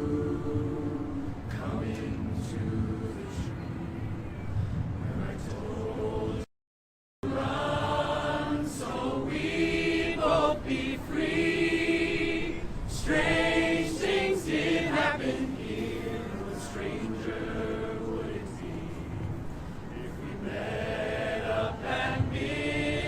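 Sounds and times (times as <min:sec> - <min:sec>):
choir singing: 0:00.0 - 0:04.3, 0:05.0 - 0:06.5, 0:07.2 - 0:23.0.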